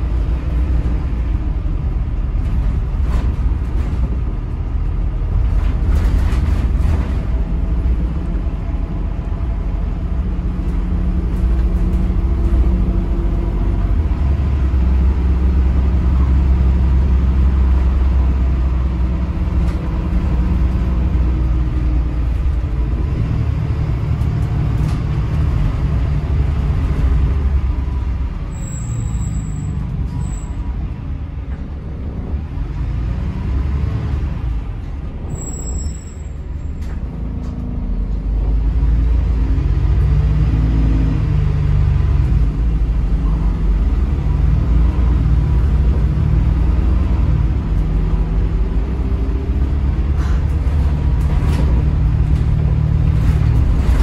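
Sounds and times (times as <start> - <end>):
bus diesel engine running: 0.0 - 54.0
road and drivetrain noise: 0.0 - 54.0.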